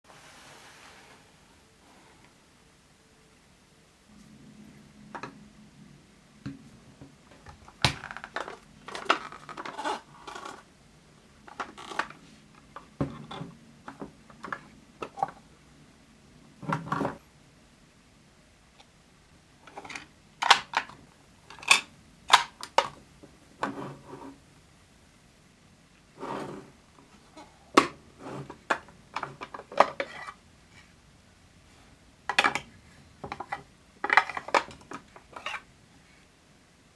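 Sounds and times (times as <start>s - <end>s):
faint low hum: 0.1s - 36.9s.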